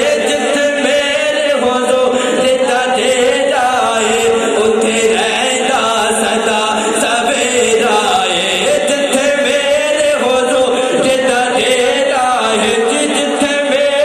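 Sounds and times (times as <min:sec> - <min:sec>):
person chanting: 0:00.0 - 0:14.0.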